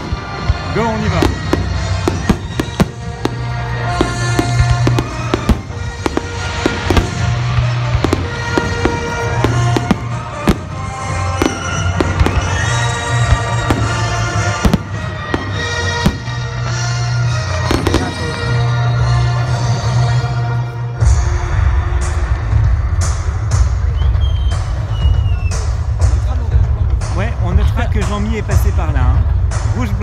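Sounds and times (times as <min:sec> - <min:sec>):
music playing: 0:00.0 - 0:30.0.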